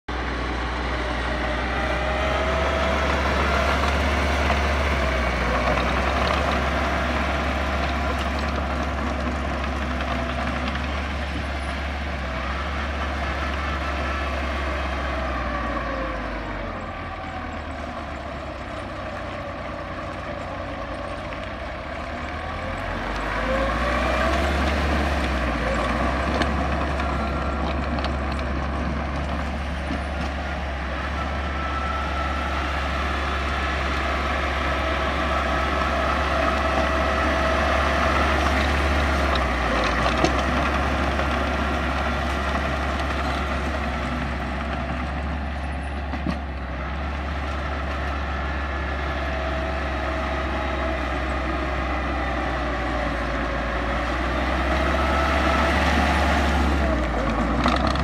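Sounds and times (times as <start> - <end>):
bulldozer diesel engine running: 0.1 - 58.0.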